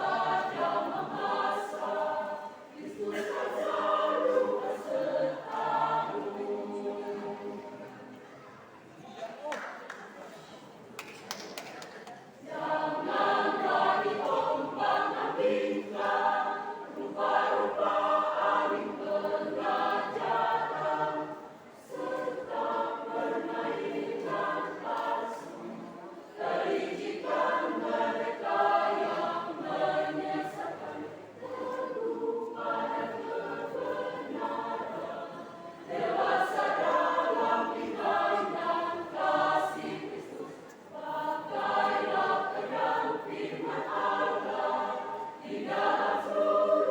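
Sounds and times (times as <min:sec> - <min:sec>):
church choir singing: 0:00.0 - 0:08.2, 0:12.4 - 0:46.9.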